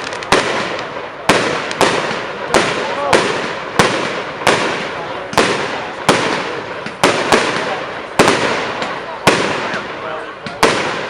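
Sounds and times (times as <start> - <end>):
crackling hiss: 0.0 - 11.0
firework bangs: 0.0 - 11.0.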